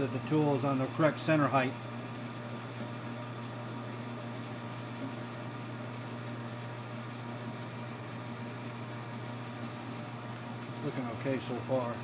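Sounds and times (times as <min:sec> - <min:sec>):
metal lathe motor hum: 0:00.0 - 0:12.0.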